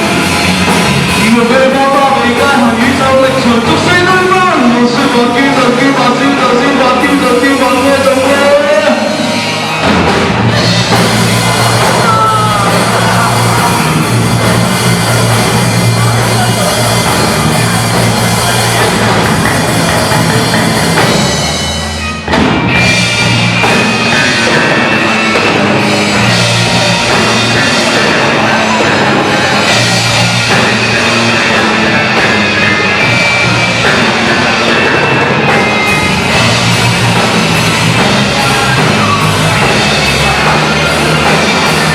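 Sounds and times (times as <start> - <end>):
loud rock music with drums: 0.0 - 41.9.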